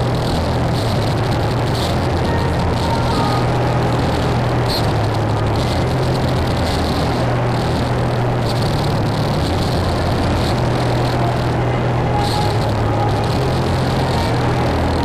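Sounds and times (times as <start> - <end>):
dense wall of hiss: 0.0 - 15.0
low droning hum: 0.0 - 15.0.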